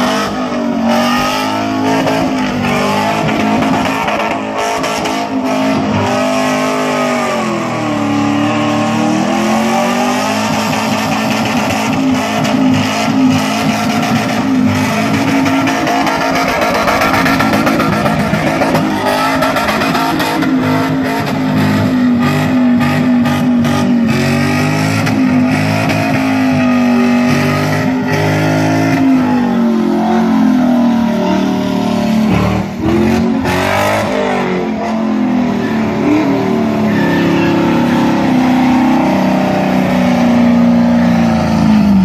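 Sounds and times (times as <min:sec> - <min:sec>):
supercharged car engine revving: 0:00.0 - 0:42.0.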